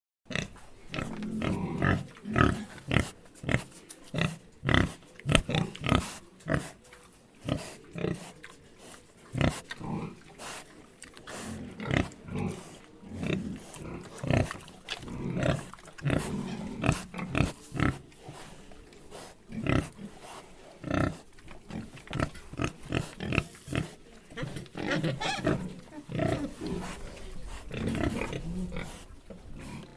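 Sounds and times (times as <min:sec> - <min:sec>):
pigs grunting and oinking: 0:00.3 - 0:06.8, 0:07.4 - 0:29.9.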